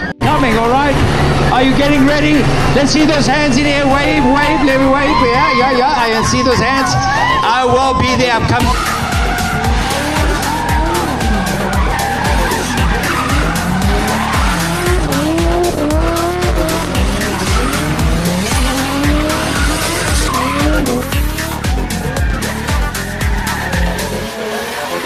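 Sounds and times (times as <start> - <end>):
car engine revving: 0.0 - 25.0
tyres skidding: 0.0 - 25.0
music with bass beat: 0.9 - 25.0.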